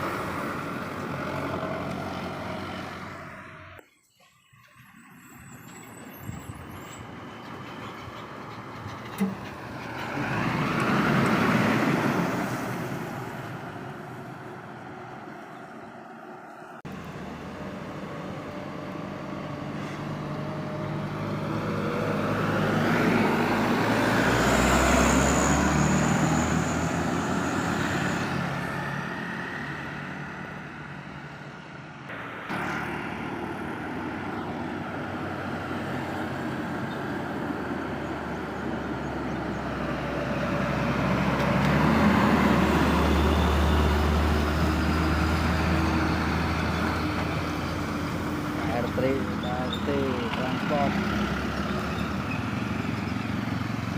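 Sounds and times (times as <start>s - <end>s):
heavy vehicles passing: 0.0s - 3.8s, 4.7s - 53.9s
road traffic noise: 0.0s - 53.9s.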